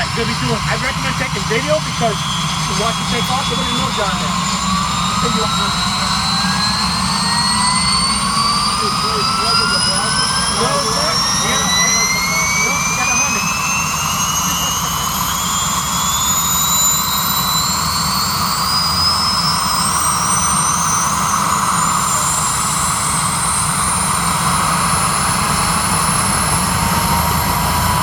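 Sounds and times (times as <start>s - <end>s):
helicopter engine rumble and hiss: 0.0s - 28.0s
helicopter turbine whine rising: 0.0s - 28.0s.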